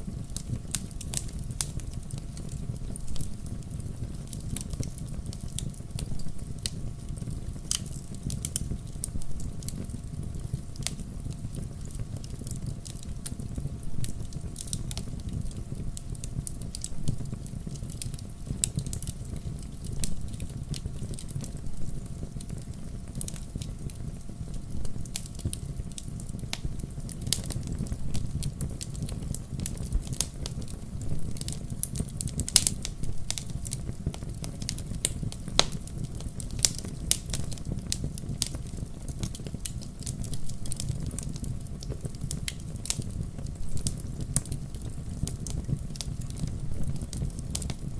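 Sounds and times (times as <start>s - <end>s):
low rumble of flames: 0.0s - 47.9s
wood fire crackling and popping: 0.0s - 47.9s.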